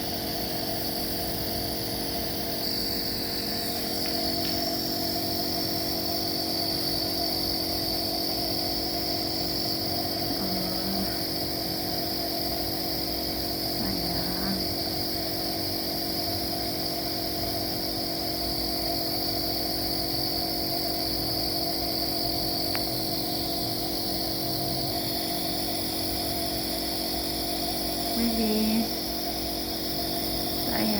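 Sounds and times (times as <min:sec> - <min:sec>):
nebulizer motor humming and hissing: 0:00.0 - 0:30.9.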